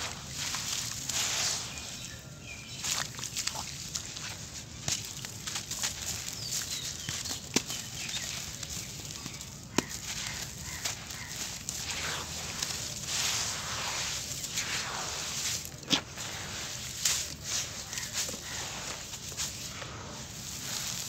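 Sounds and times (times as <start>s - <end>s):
hands crumbling damp sand: 0.0s - 21.0s
grains pattering into water: 2.9s - 21.0s.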